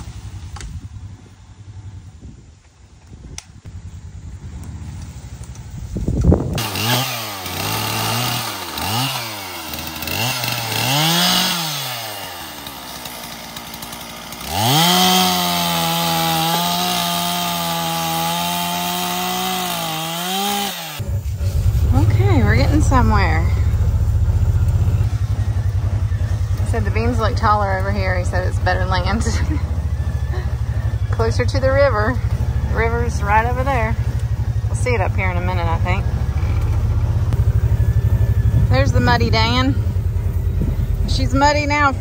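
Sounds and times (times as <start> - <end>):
chainsaw revving and cutting wood: 6.3 - 42.0.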